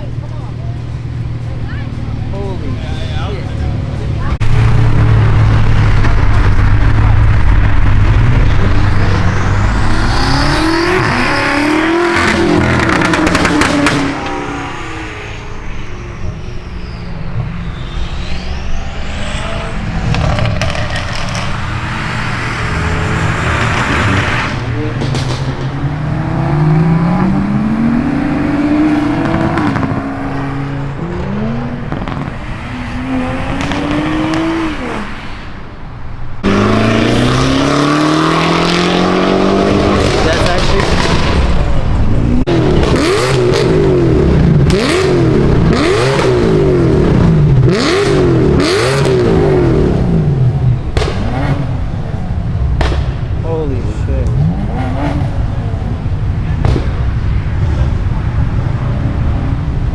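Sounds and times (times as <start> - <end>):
car engines revving past: 0.0 - 59.9.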